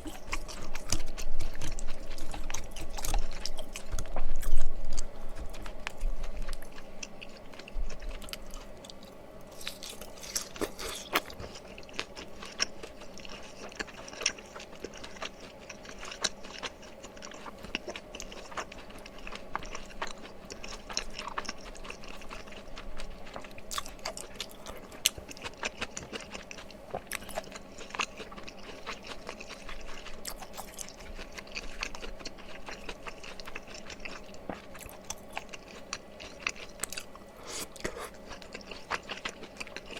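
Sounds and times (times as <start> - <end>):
close chewing and mouth sounds: 0.0 - 39.9.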